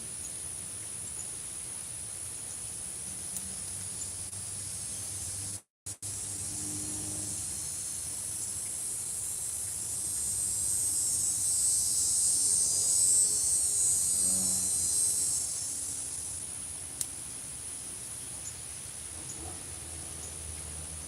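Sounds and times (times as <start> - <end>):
insects buzzing trill: 0.0 - 21.0.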